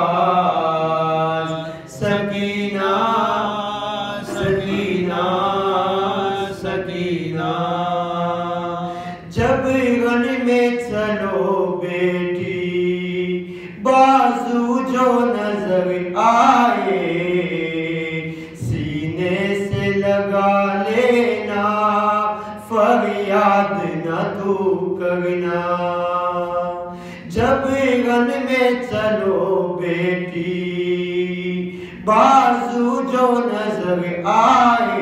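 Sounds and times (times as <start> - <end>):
man chanting: 0.0 - 35.0.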